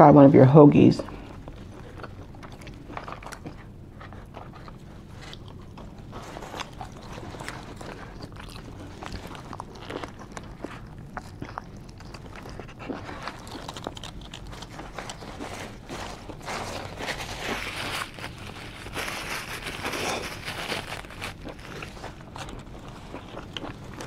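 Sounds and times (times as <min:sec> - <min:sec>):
close-up chewing: 0:01.1 - 0:24.0
foil and paper crinkling: 0:01.2 - 0:24.0.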